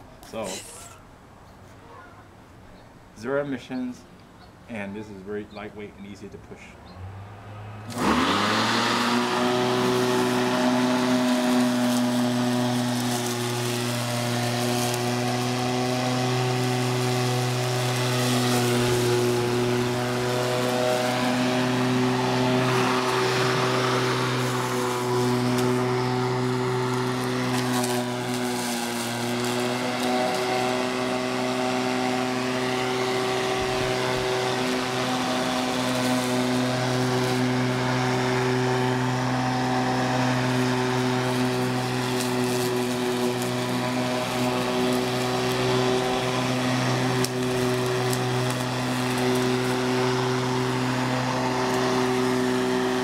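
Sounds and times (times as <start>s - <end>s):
electric lawn mower running: 7.0s - 53.0s.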